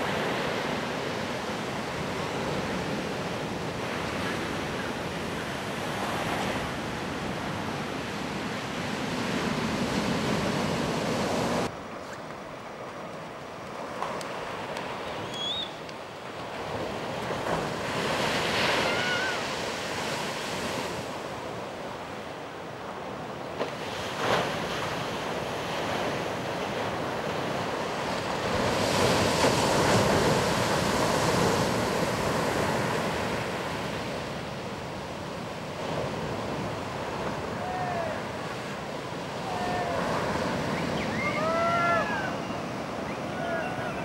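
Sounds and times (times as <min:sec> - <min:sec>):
ocean waves breaking: 0:00.0 - 0:44.0.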